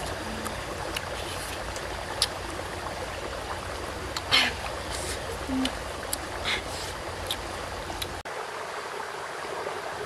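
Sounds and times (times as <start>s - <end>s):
steady rushing water: 0.0s - 10.0s.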